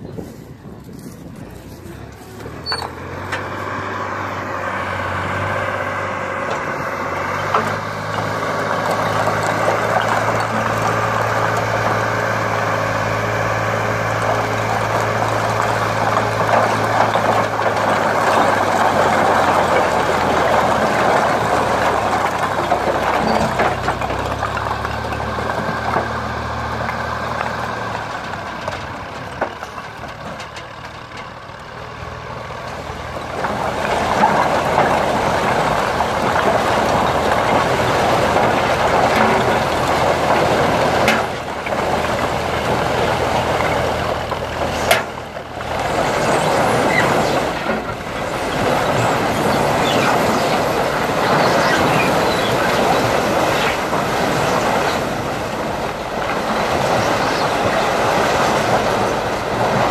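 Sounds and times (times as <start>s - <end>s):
tractor diesel engine running: 0.0s - 59.9s
bricks sliding and tumbling: 7.3s - 31.4s, 32.0s - 59.9s.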